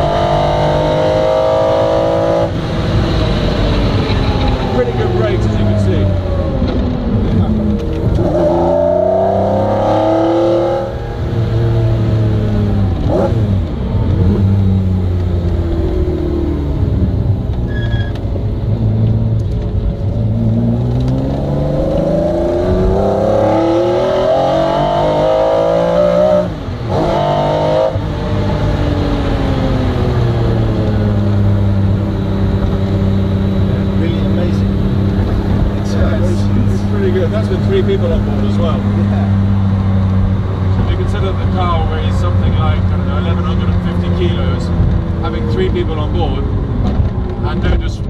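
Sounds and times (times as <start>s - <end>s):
car engine accelerating: 0.0s - 48.0s.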